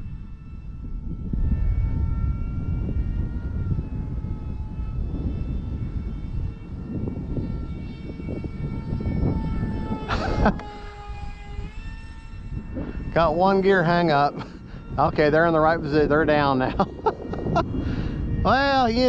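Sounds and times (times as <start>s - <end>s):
electric ducted fans whining: 0.0s - 19.0s
wind rumble on microphone: 0.0s - 19.0s.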